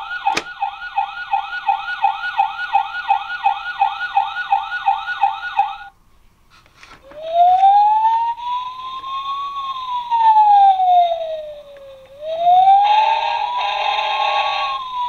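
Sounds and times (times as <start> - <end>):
toy yelping siren: 0.0 - 5.9, 7.2 - 15.0.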